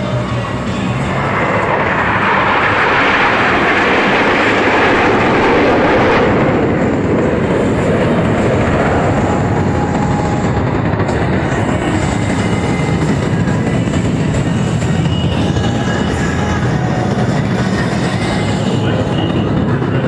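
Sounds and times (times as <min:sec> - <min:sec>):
jet engines flying past: 0:00.0 - 0:20.0.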